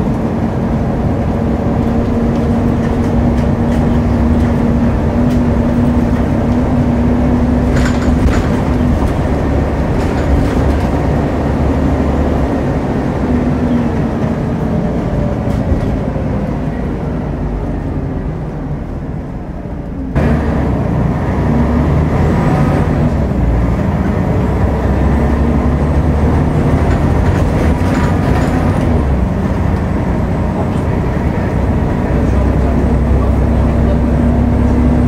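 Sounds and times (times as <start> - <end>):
bus diesel engine: 0.0 - 35.0.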